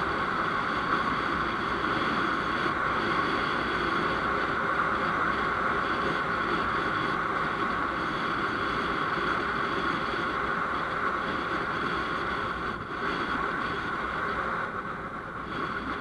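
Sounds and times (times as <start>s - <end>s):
vehicle road and engine noise: 0.0s - 16.0s.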